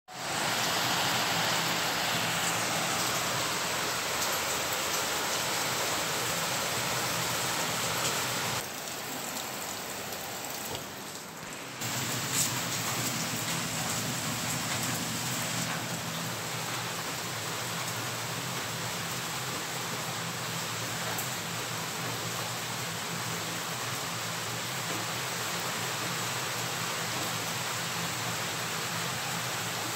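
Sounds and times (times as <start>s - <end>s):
heavy rain: 0.1s - 29.9s.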